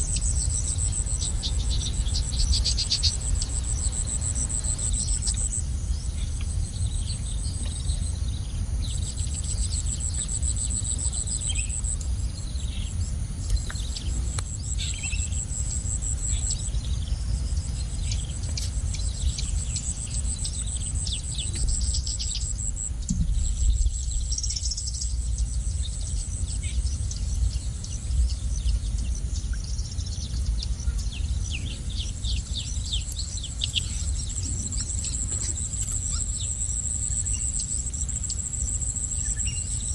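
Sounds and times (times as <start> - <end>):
low rumble: 0.0 - 35.6
pulsing insect trill: 0.0 - 39.9
small birds chirping: 0.0 - 39.9.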